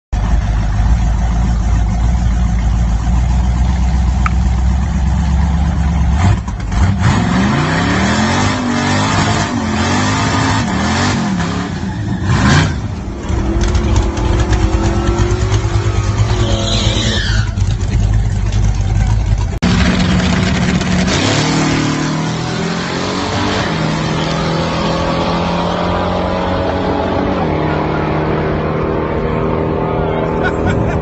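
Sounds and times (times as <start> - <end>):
vee-eight engine accelerating: 0.2 - 31.0.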